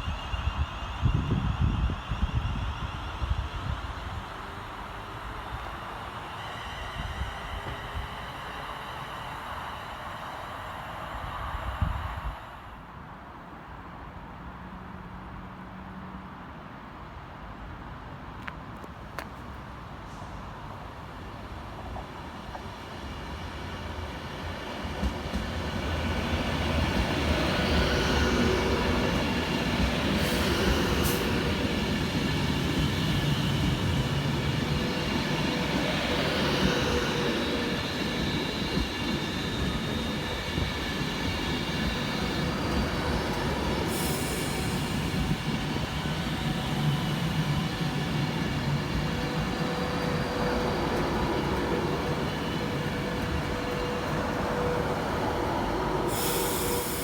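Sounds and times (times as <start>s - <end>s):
high whining train tones: 0.0s - 13.6s, 20.0s - 57.0s
train rumbling: 0.0s - 16.1s, 17.6s - 57.0s.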